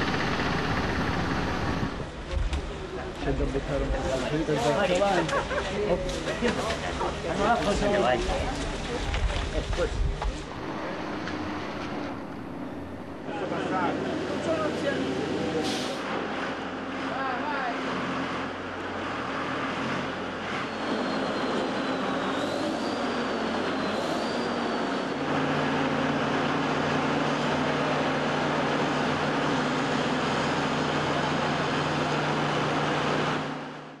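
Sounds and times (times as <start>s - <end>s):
heavy machinery diesel engines: 0.0s - 34.0s.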